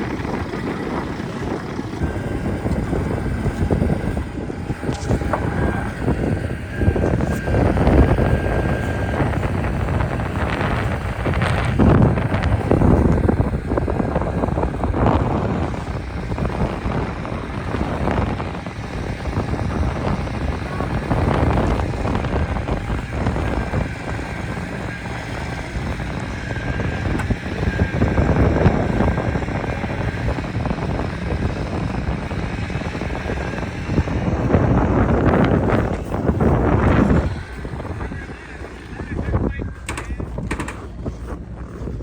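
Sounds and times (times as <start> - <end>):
gusty wind buffeting microphone: 0.0 - 42.0
heavy truck engines running: 0.0 - 42.0.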